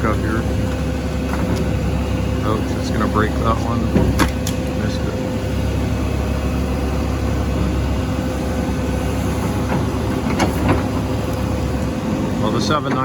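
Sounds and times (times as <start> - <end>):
constant high hum: 0.0 - 13.0
excavator diesel engine digging: 0.0 - 13.0.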